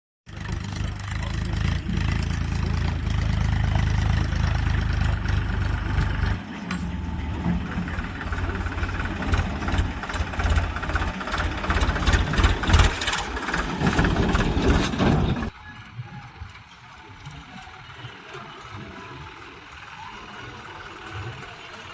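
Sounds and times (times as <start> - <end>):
heavy engine droning: 0.3 - 21.9
rough engine clattering and rattling: 0.3 - 21.9.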